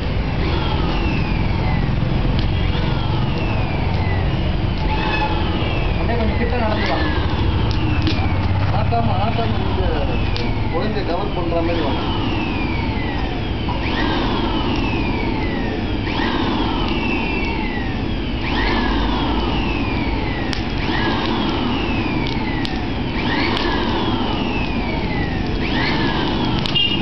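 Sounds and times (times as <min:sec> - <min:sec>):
air rushing through fire: 0:00.0 - 0:27.0
blower whine: 0:00.0 - 0:27.0.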